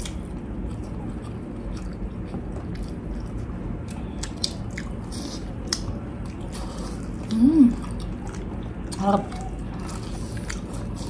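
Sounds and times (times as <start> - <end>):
biting and chewing: 0.0 - 11.0
low background hum: 0.0 - 11.0.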